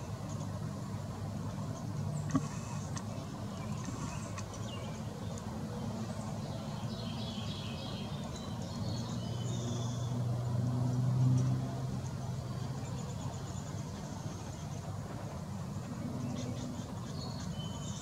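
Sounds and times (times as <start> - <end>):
birds chirping: 1.4 - 18.0
passing vehicle rumble: 2.2 - 17.8.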